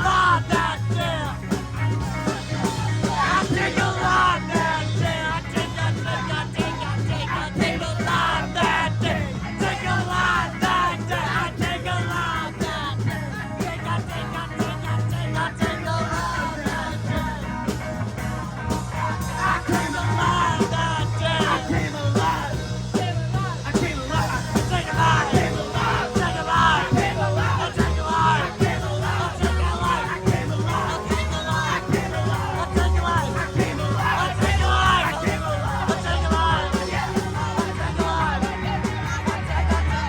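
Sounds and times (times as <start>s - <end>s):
person singing: 0.0s - 17.9s, 19.0s - 40.0s
bass: 0.0s - 40.0s
guitar: 0.0s - 40.0s.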